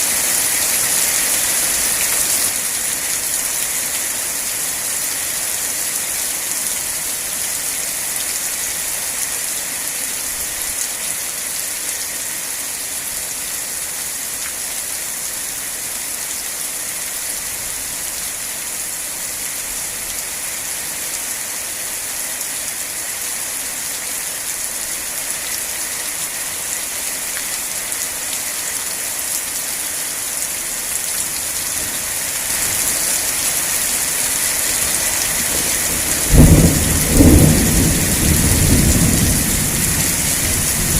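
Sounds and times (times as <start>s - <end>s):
heavy rain pattering: 0.0s - 17.2s, 17.8s - 40.9s.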